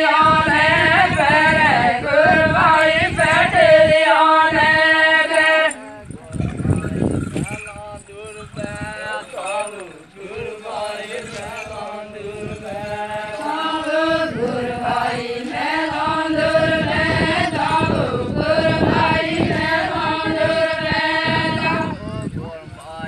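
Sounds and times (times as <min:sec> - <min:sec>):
women singing folk song: 0:00.0 - 0:06.2, 0:10.3 - 0:23.0.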